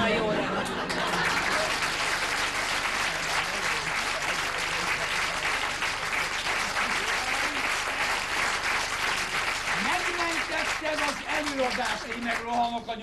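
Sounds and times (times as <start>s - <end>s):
audience applauding: 0.6s - 13.0s.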